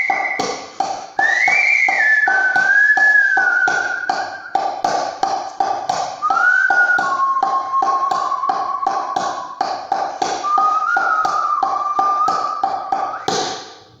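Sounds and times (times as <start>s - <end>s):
person whistling a melody: 0.0s - 5.2s, 6.2s - 13.6s
steady tapping beat: 0.0s - 14.0s.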